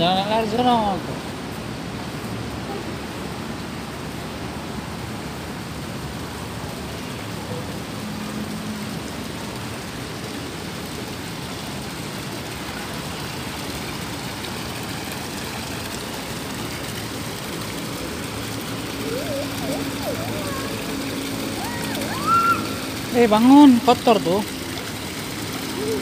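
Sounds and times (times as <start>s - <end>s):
water feature splashing: 0.0s - 26.0s.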